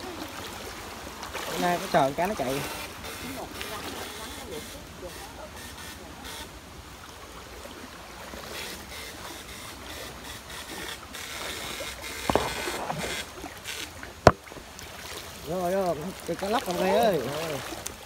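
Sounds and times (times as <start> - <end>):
stream water sloshing and splashing: 0.0 - 18.0.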